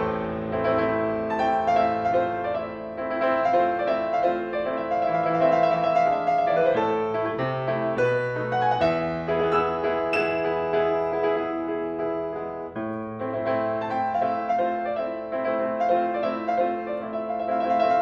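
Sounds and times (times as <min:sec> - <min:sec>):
solo classical piano: 0:00.0 - 0:18.0.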